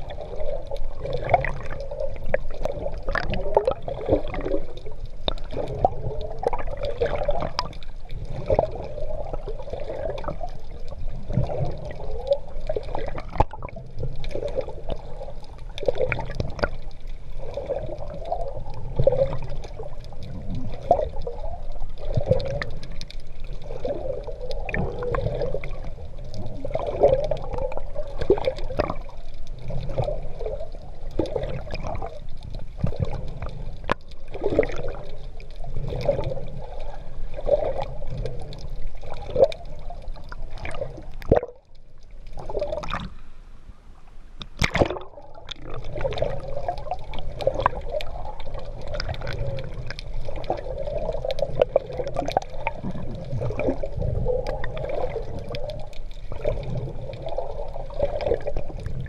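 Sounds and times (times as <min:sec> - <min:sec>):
water sloshing and splashing: 0:00.0 - 0:43.3, 0:44.4 - 0:59.0.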